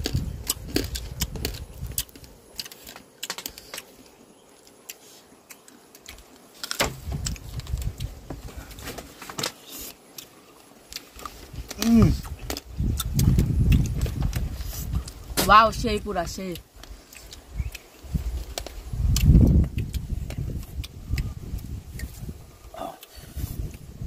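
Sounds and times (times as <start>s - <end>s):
close-up chewing: 0.0s - 8.8s, 9.4s - 15.3s, 16.5s - 23.9s.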